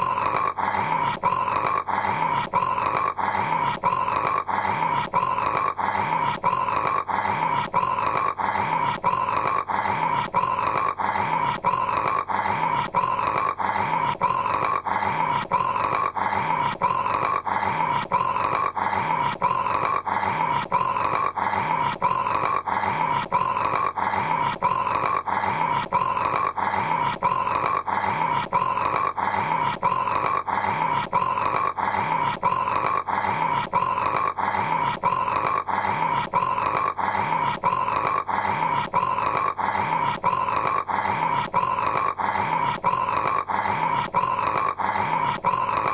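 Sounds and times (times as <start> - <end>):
man snoring: 0.0 - 45.9.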